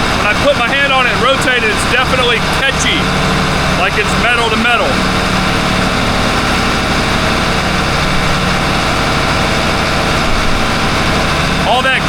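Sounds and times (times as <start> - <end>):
marine diesel engines running: 0.0 - 12.0.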